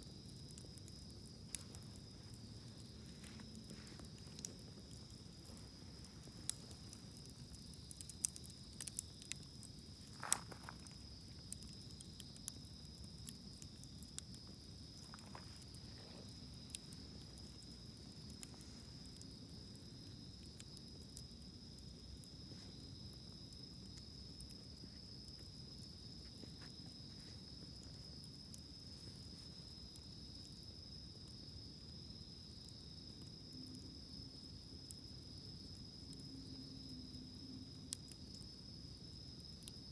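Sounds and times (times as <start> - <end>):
campfire crackling: 0.0 - 39.9
insects trilling: 0.0 - 39.9.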